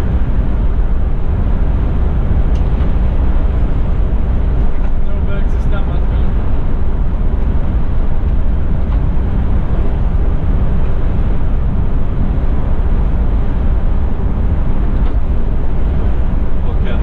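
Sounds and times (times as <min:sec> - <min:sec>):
coach engine hum: 0:00.0 - 0:17.0.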